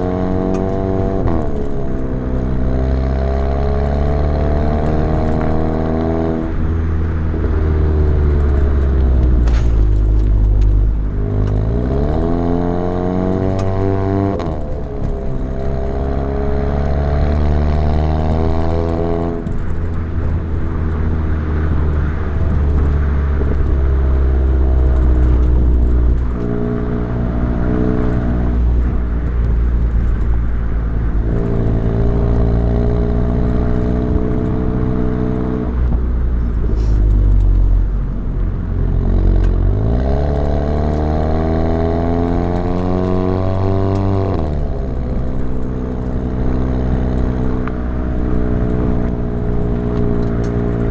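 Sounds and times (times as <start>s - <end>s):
car exhaust revving through gears: 0.0s - 50.9s.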